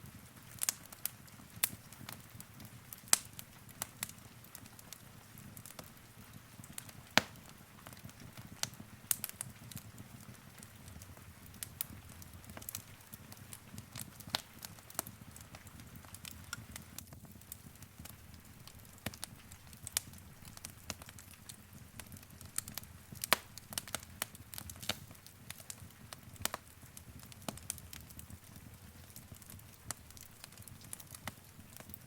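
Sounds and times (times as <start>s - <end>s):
fire pops and snaps: 0.0s - 32.0s
low rumble of flames: 0.0s - 32.0s.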